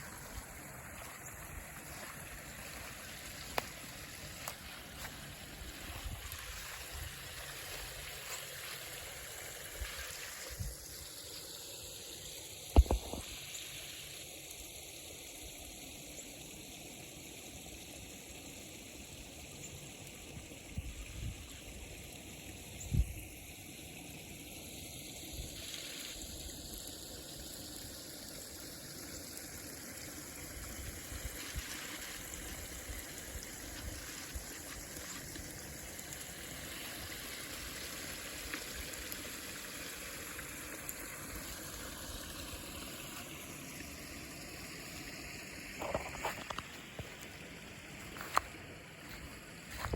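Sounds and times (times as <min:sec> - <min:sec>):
rainwater runoff trickling: 0:00.0 - 0:49.9.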